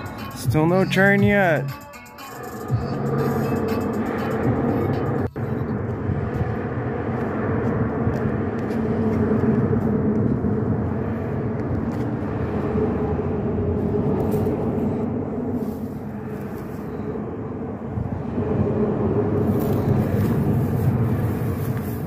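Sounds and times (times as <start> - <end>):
vehicle drone: 0.0 - 22.0.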